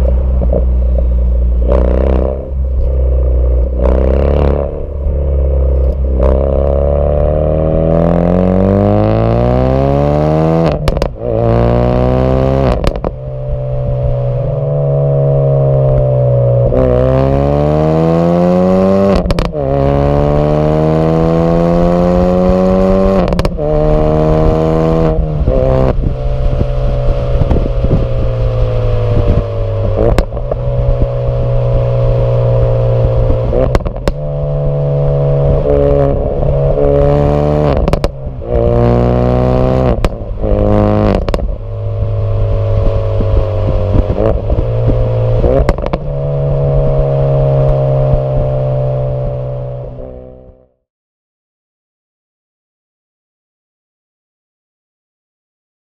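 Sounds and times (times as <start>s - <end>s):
car engine accelerating: 0.0s - 50.8s.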